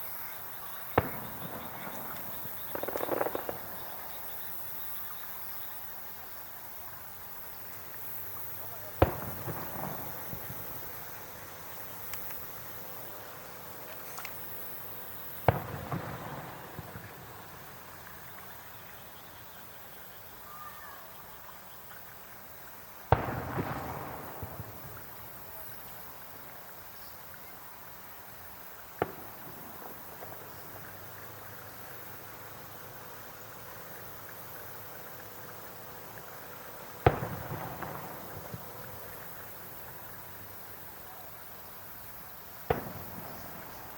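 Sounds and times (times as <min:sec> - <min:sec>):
fireworks bursting: 0:00.0 - 0:19.3, 0:22.9 - 0:26.5, 0:28.4 - 0:43.9.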